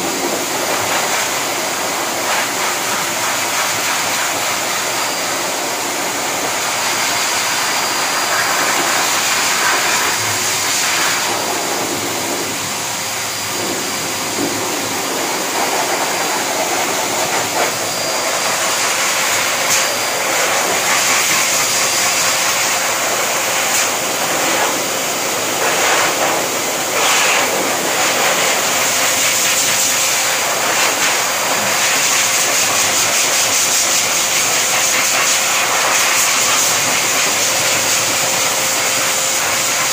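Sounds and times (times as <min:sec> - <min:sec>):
pet blow dryer air rush: 0:00.0 - 0:39.9.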